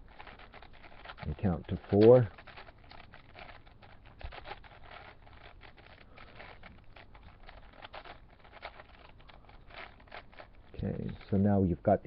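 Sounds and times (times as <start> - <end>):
puzzle cube clicking and scraping: 0.0 - 11.8.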